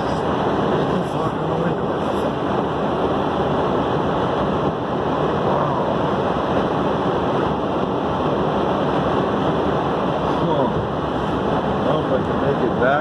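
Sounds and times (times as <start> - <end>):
wind rushing through truck window: 0.0 - 13.0.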